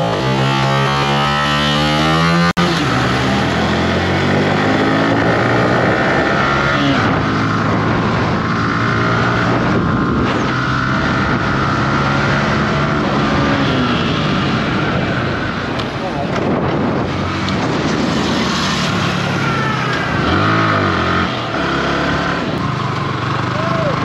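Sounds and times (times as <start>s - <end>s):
wind rushing over microphone: 0.0s - 23.3s
motorcycle engine accelerating: 0.0s - 24.0s.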